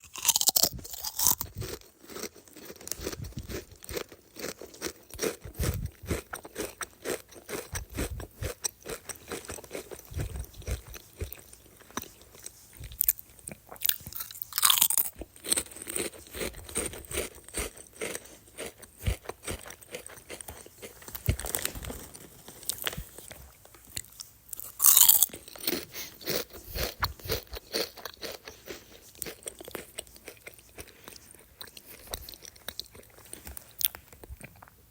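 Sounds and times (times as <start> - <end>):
potato chips crunching: 0.0 - 34.7.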